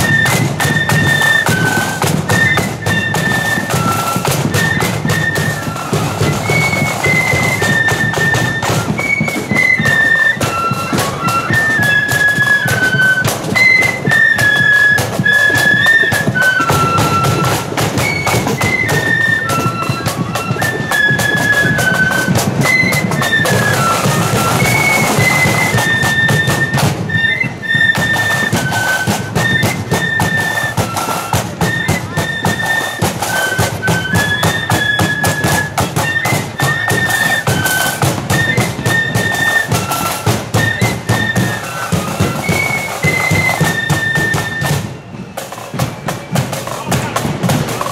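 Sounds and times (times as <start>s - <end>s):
drums beating: 0.0s - 47.9s
flute band playing: 0.0s - 47.9s.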